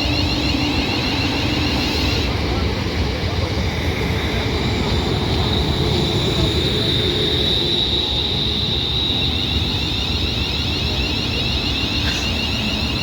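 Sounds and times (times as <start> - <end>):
train rumbling: 0.0 - 13.0
wavering whine: 0.0 - 13.0.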